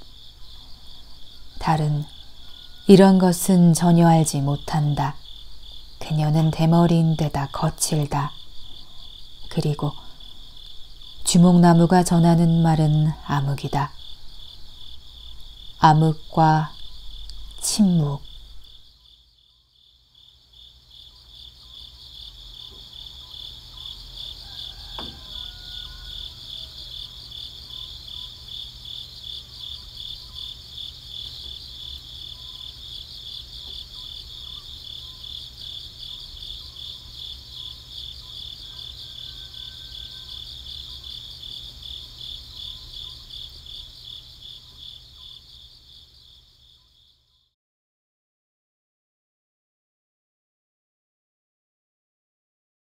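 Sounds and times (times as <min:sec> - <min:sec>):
insects chirping: 0:00.0 - 0:47.5.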